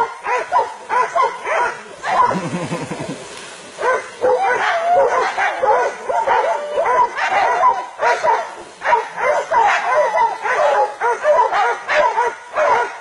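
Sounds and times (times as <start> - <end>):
dogs barking: 0.0 - 2.6, 3.8 - 13.0.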